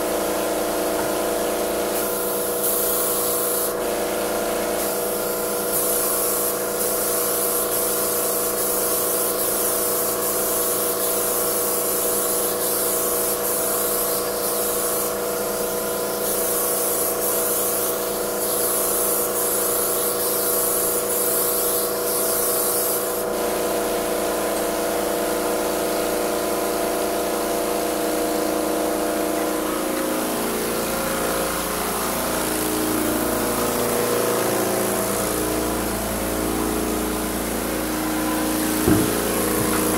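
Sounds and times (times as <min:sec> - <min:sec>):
paint sprayer pump hum: 0:00.0 - 0:39.9
spray gun hissing: 0:00.3 - 0:25.0, 0:27.3 - 0:39.9.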